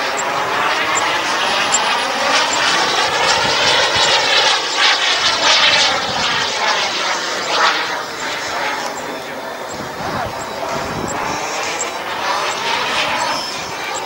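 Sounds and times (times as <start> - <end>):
model jet flying past: 0.0 - 14.0.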